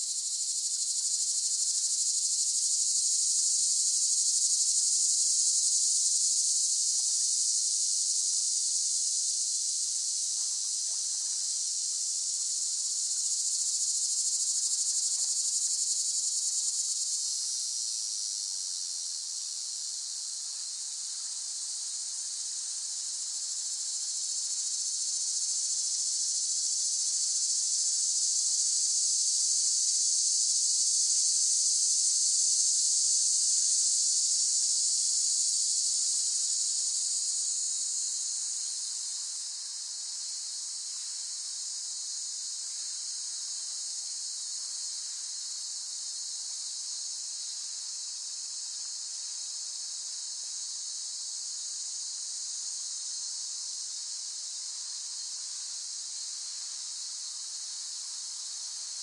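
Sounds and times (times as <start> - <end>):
cicadas buzzing: 0.0 - 50.8, 51.6 - 59.0.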